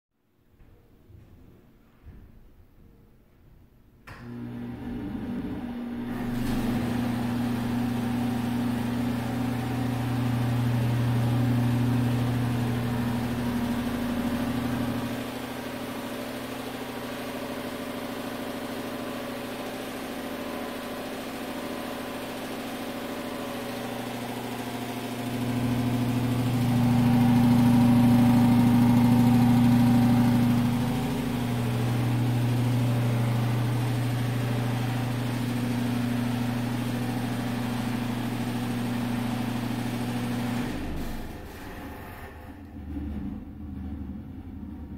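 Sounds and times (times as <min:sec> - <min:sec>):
exhaust fan humming: 0:04.1 - 0:44.9.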